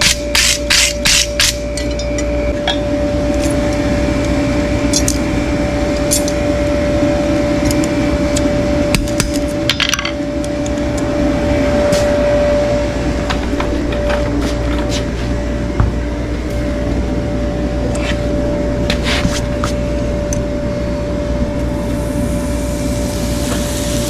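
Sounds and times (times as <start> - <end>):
motor humming: 1.6 - 24.0.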